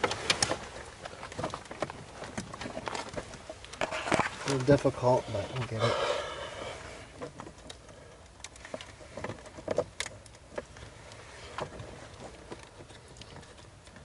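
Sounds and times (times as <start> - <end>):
wire rustling: 0.0 - 5.7, 6.8 - 14.0.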